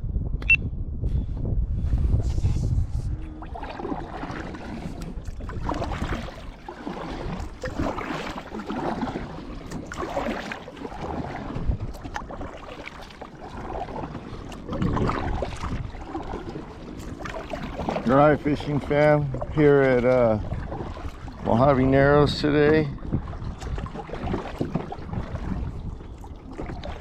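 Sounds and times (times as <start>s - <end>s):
wind buffeting microphone: 0.0s - 27.0s
water splashing around kayak: 2.0s - 27.0s.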